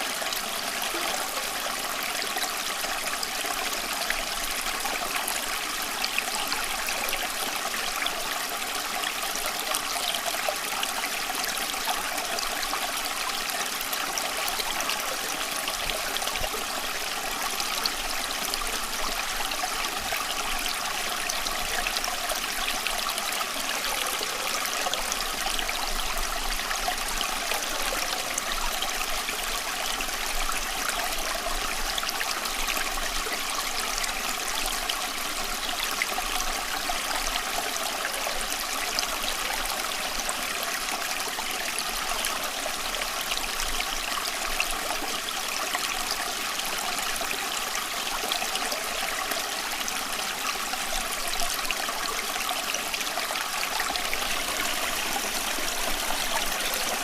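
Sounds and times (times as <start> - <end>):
running water flowing: 0.0 - 57.0.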